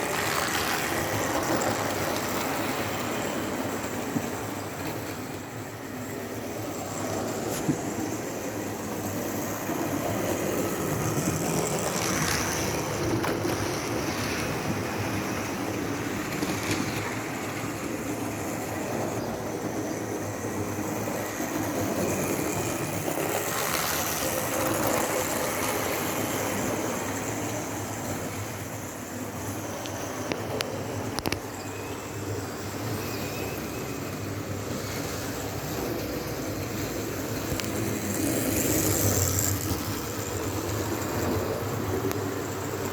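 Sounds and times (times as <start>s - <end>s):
model trains running on track: 0.0s - 42.9s.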